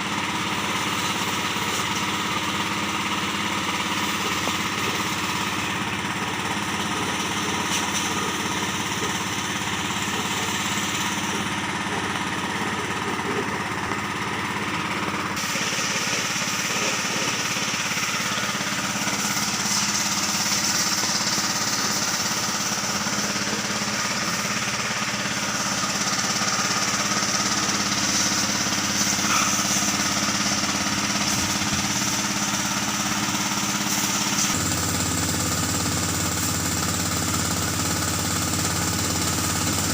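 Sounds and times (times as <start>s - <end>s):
tractor diesel engine clattering: 0.0s - 39.9s.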